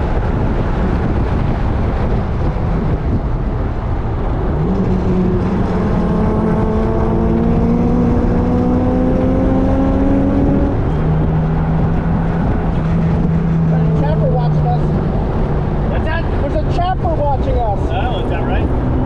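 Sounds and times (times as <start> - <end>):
car engine accelerating: 0.0 - 19.0
road noise: 0.0 - 19.0
wind noise: 0.0 - 19.0.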